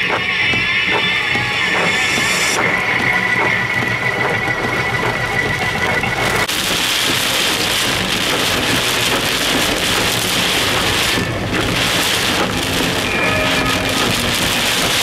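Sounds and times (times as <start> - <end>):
heavy rain on car roof: 2.6 - 15.0.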